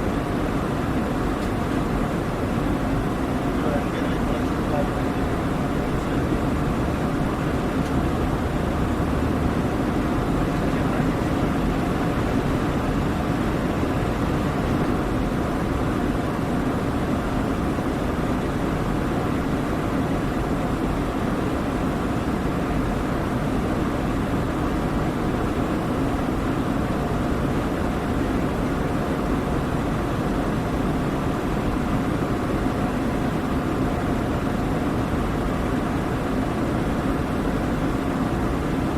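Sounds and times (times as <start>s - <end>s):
faint steady whine: 0.0s - 38.9s
jet engine roar in cabin: 0.0s - 38.9s.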